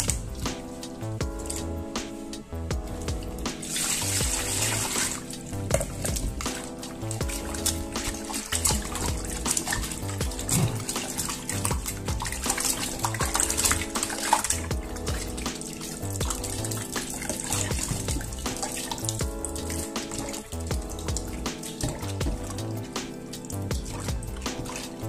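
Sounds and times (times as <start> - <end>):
background music with steady beat: 0.0 - 25.0
running tap: 0.0 - 25.0
water splashing in steel bowl: 0.0 - 25.0.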